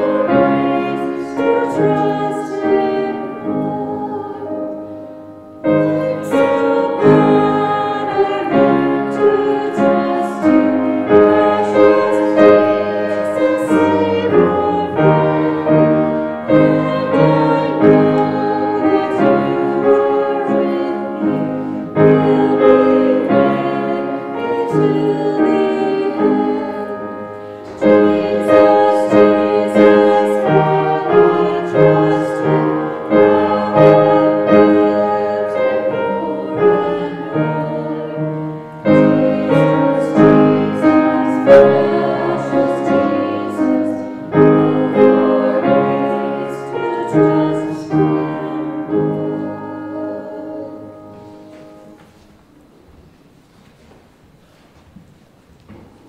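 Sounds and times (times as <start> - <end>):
people singing a hymn: 0.0 - 52.3
piano: 0.0 - 56.0.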